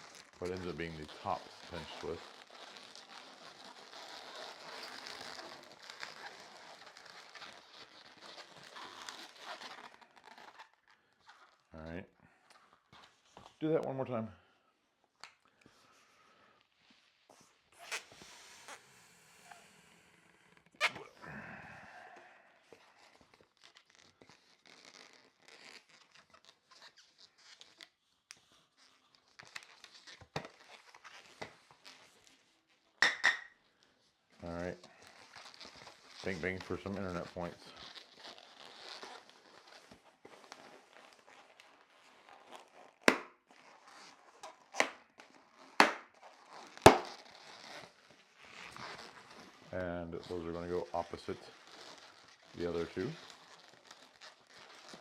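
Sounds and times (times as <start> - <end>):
balloons rubbing together: 0.0 - 11.7, 12.5 - 13.7, 15.7 - 33.0, 33.6 - 55.0.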